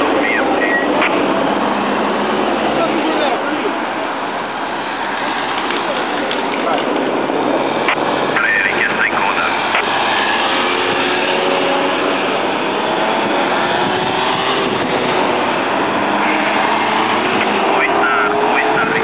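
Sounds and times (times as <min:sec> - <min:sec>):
vehicles driving past: 0:00.0 - 0:19.0.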